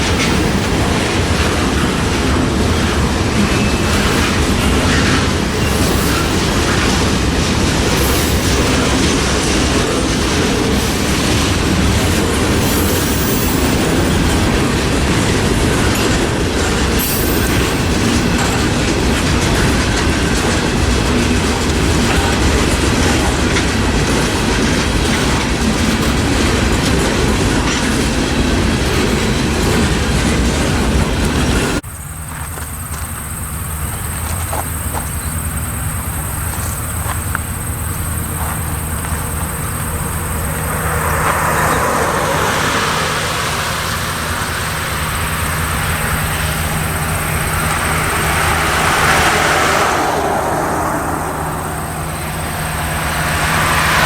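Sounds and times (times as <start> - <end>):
freight train rolling past: 0.0 - 54.0
wheels clattering over rail joints: 0.0 - 54.0.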